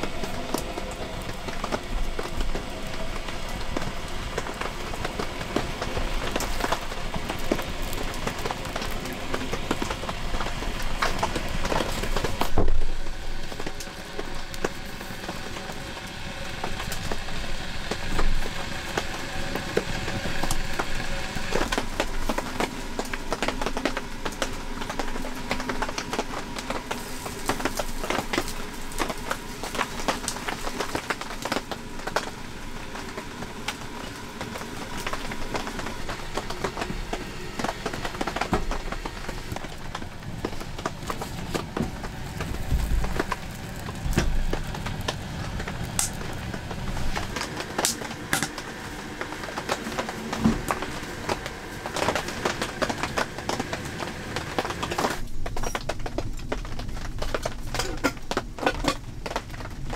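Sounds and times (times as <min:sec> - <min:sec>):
wood fire crackling in stove: 0:00.0 - 0:59.9.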